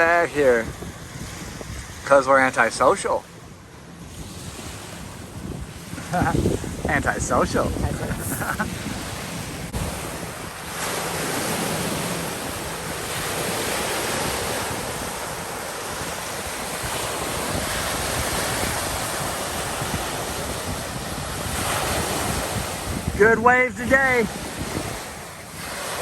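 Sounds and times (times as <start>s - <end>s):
waves washing on a lake: 0.0s - 26.0s
wind buffeting microphone: 0.0s - 26.0s.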